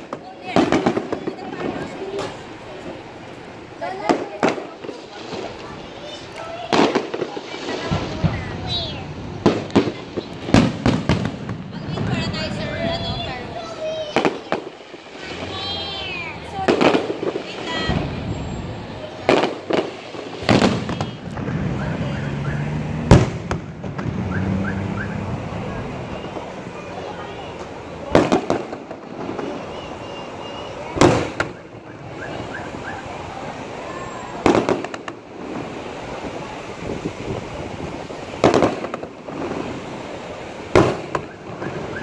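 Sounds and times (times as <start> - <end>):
fireworks bangs: 0.0 - 42.0.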